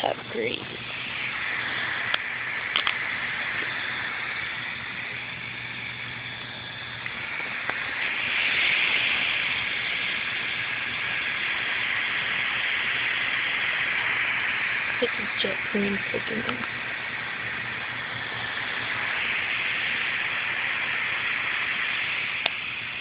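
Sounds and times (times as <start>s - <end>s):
laptop cooling fan running hard: 0.0s - 23.0s.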